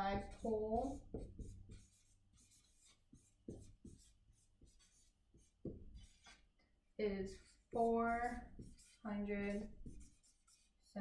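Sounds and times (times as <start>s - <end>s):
marker writing on paper: 0.0s - 6.5s, 7.2s - 11.0s.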